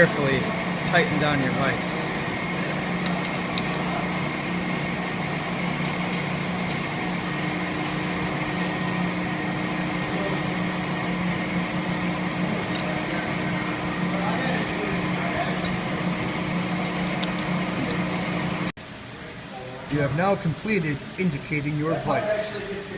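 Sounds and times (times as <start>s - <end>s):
machine hum: 0.0s - 22.9s.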